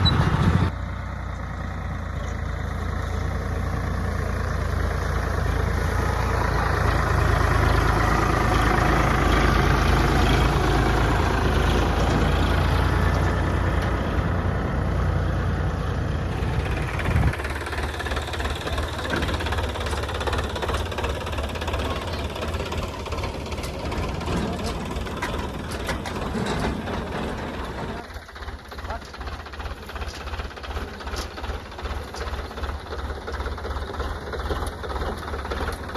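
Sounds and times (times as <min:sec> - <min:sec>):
tractor engine running thresher: 0:00.0 - 0:35.9.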